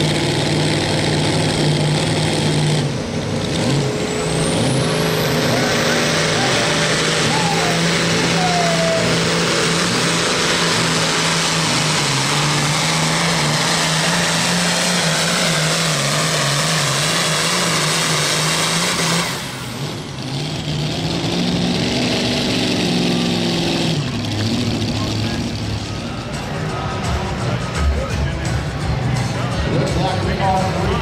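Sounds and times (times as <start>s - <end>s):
tractor engine at full throttle: 0.0s - 31.0s.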